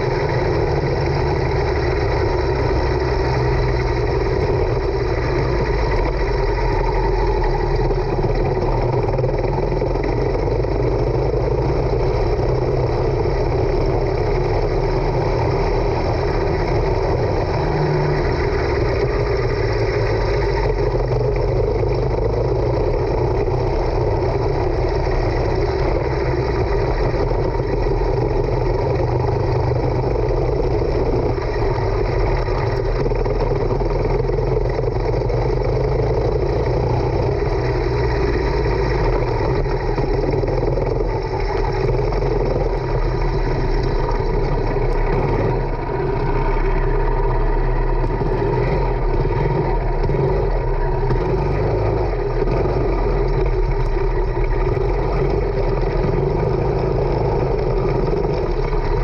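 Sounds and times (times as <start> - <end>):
kart engine at low revs: 0.0 - 59.0.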